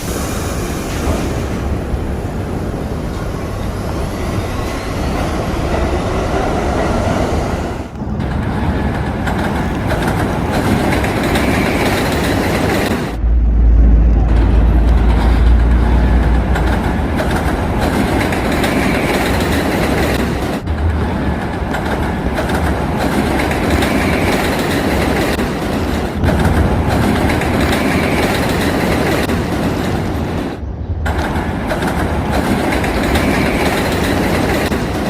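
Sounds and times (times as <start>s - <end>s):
train wheels clickety-clack: 0.0s - 35.0s.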